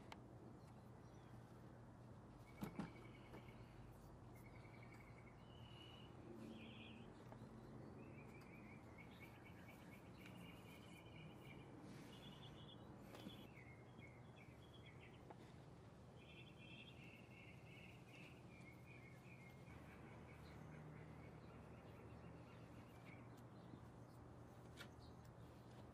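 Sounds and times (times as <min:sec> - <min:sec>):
low steady hum: 0:00.0 - 0:25.9
small birds chirping: 0:00.0 - 0:25.9.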